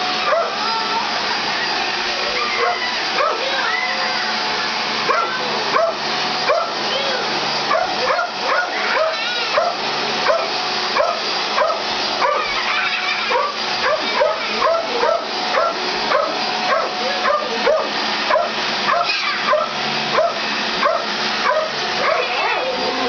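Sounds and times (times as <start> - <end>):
vacuum cleaner motor humming: 0.0 - 23.0
dog barking and yipping: 0.2 - 0.6, 2.4 - 3.6, 5.1 - 6.8, 7.7 - 23.0.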